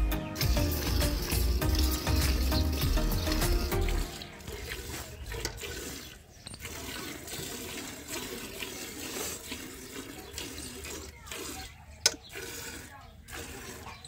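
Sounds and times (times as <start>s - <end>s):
milk squirting into steel bucket: 0.4s - 14.0s.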